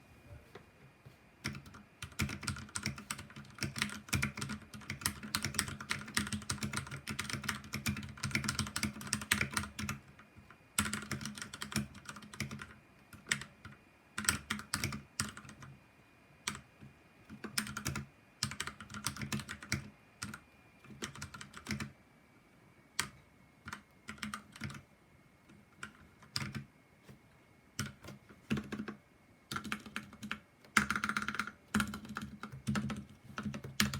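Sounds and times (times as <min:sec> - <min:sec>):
mechanical keyboard typing: 0:01.4 - 0:15.8, 0:16.4 - 0:21.9, 0:23.0 - 0:24.9, 0:25.5 - 0:26.7, 0:27.8 - 0:33.9.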